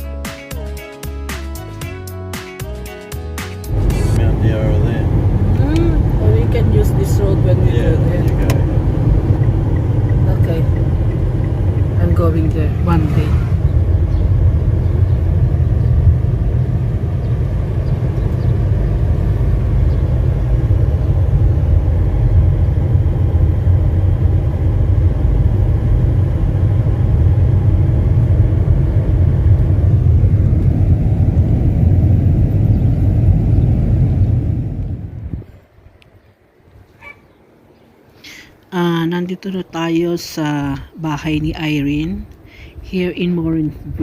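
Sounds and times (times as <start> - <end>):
car engine and tyre rumble: 3.6 - 44.0.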